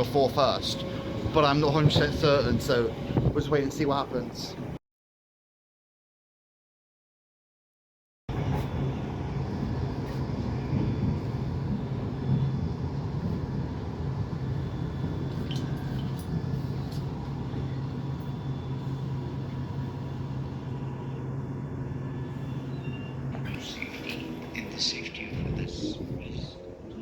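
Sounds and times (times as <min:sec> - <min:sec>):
train rumbling: 0:00.0 - 0:04.8, 0:08.3 - 0:27.0.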